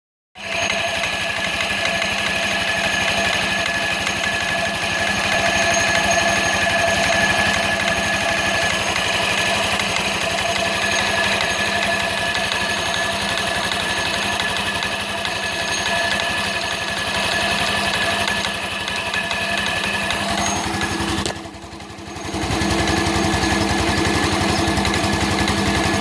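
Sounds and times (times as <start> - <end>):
engine running: 0.4 - 26.0
rapid metallic knocking: 0.4 - 26.0.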